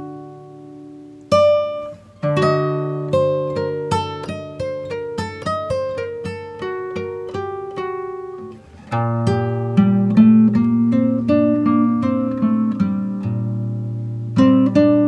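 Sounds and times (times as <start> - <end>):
plucked-string melody: 1.2 - 15.0.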